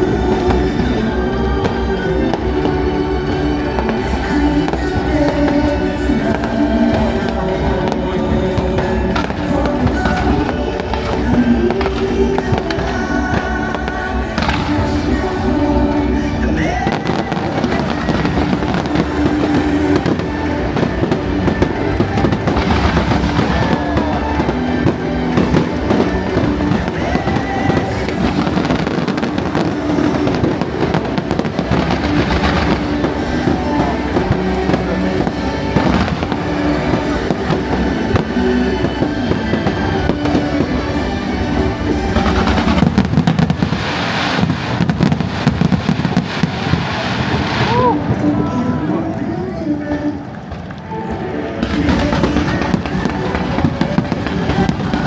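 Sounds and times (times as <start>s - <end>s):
fireworks bursting and crackling: 0.0s - 55.0s
loud music: 0.0s - 55.0s.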